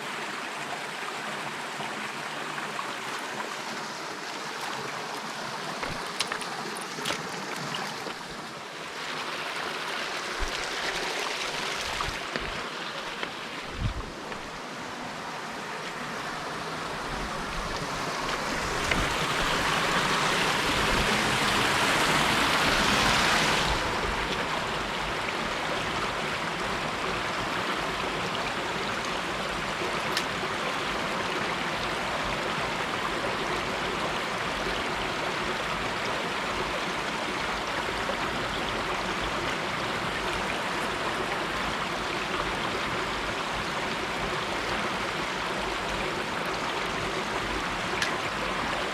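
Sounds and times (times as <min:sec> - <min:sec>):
stream water rushing over rocks: 0:00.0 - 0:48.9.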